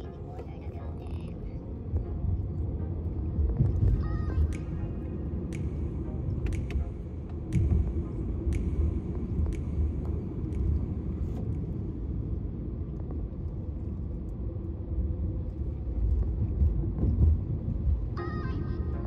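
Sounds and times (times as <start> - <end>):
car road rumble inside cabin: 0.0 - 19.0.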